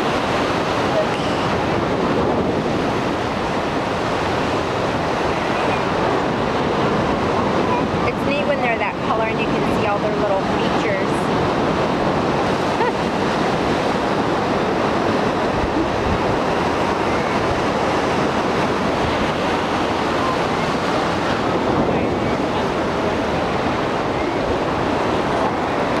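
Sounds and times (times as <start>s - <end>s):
ocean surf on beach: 0.0s - 26.0s
wind on microphone: 0.0s - 26.0s.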